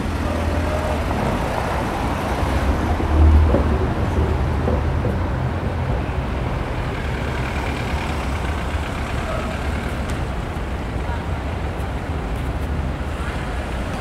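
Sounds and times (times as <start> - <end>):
traffic rumble of engines and tyres: 0.0 - 14.0.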